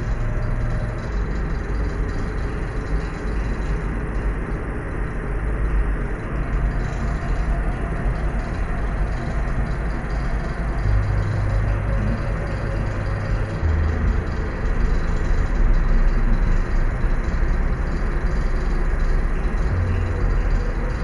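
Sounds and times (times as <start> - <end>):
low hum: 0.0 - 21.0
purple noise hiss and rumble: 0.0 - 21.0.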